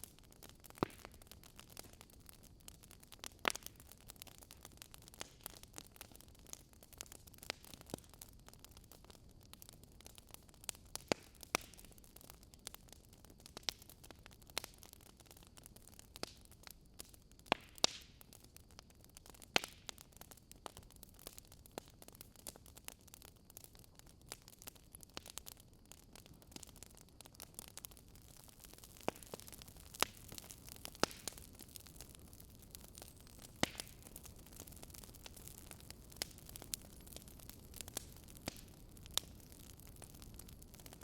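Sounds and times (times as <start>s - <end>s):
burning logs crackling: 0.0s - 41.0s
faint steady hiss: 0.0s - 41.0s.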